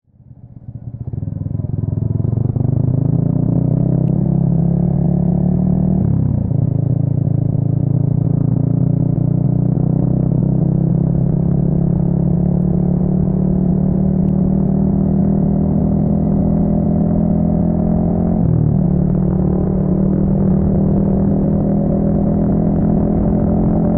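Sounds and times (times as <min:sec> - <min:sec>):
motorcycle engine accelerating: 0:00.2 - 0:23.9.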